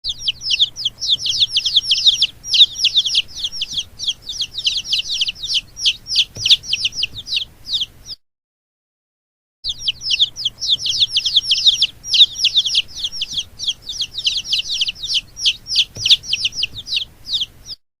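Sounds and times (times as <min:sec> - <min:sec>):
baby chicks peeping: 0:00.0 - 0:08.2, 0:09.7 - 0:17.8.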